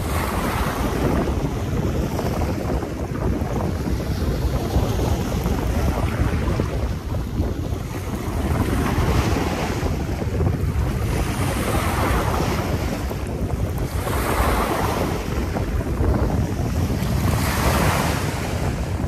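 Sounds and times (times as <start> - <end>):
waves splashing on rocks: 0.0 - 19.0
wind buffeting microphone: 0.0 - 19.0.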